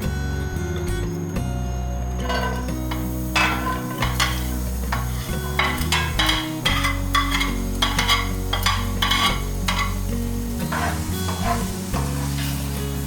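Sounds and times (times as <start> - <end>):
soft background music: 0.0 - 13.0
food sizzling in a frying pan: 2.1 - 13.0
utensil scraping a pan: 2.2 - 13.0.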